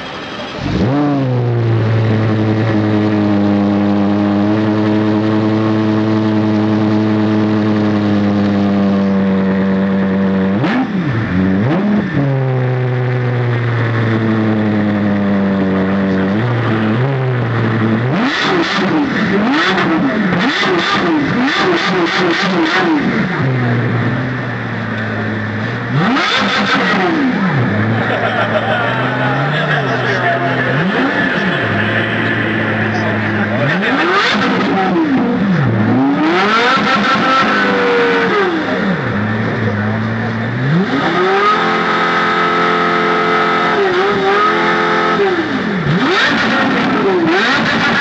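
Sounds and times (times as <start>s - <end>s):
sports car engine revving: 0.0s - 48.0s.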